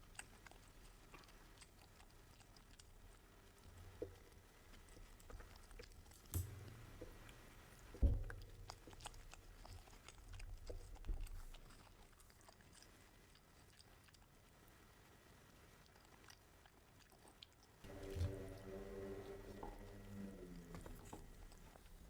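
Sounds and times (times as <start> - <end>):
person chewing food: 0.0 - 14.6, 15.8 - 22.0.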